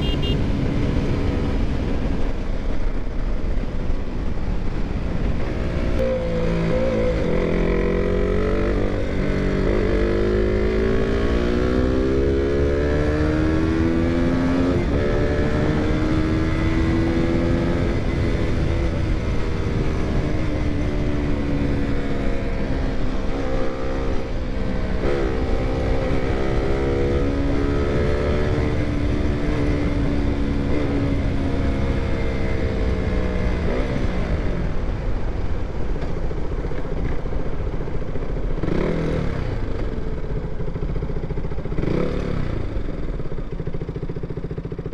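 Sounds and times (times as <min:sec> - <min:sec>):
motorcycle engine accelerating: 0:00.0 - 0:02.3, 0:05.4 - 0:44.9
wind and road noise: 0:00.0 - 0:44.9.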